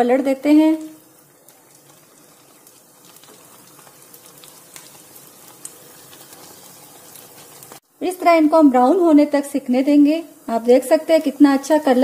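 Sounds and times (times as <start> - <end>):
frying sizzle with crackles: 0.0 - 12.0.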